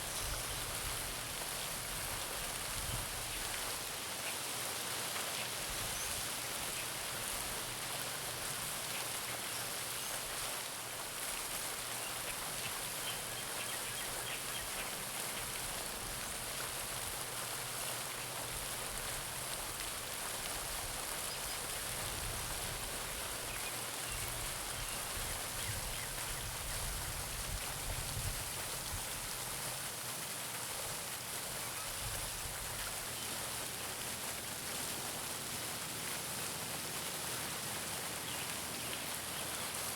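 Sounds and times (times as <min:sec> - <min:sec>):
fountain splashing into pond: 0:00.0 - 0:39.9.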